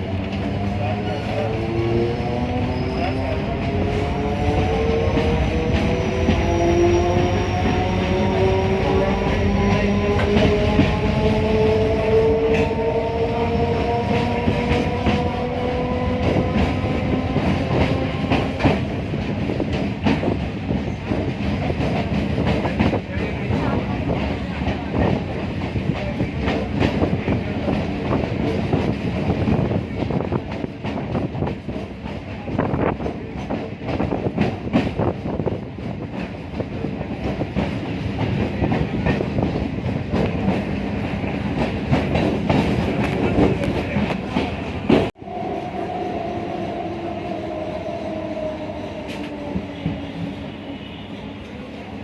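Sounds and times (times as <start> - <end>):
train wheels clattering: 3.5 - 45.1.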